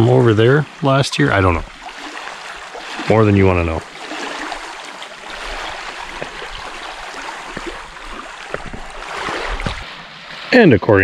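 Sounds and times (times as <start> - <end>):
lake waves lapping on rocks: 0.0 - 10.6.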